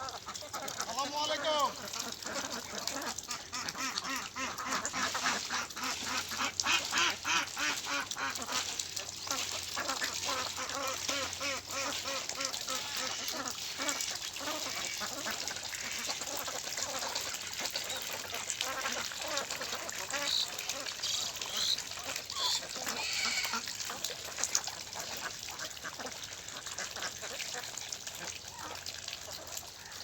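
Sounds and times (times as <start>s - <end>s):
ducks quacking: 0.0s - 24.4s.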